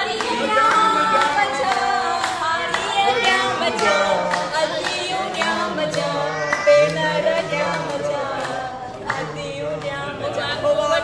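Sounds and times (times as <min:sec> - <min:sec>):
hand-clapping: 0:00.0 - 0:10.0
women singing together: 0:00.0 - 0:11.0.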